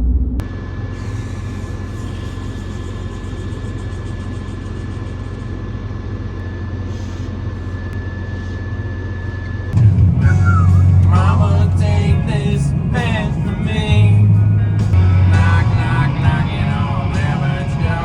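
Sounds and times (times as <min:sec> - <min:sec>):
faint high whine: 0:00.0 - 0:18.0
truck engine and road rumble: 0:00.0 - 0:18.0.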